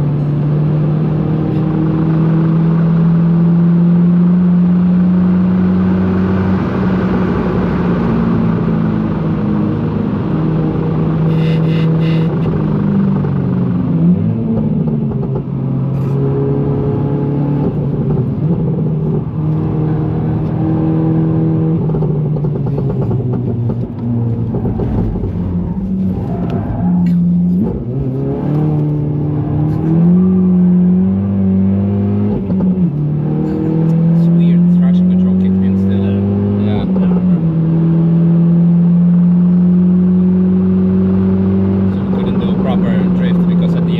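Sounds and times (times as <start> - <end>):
car engine pulling hard: 0.0 - 43.9.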